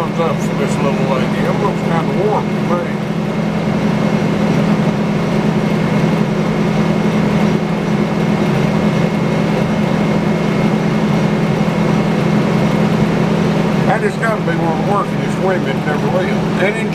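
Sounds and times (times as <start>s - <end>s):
sawmill machinery drone: 0.0s - 16.9s.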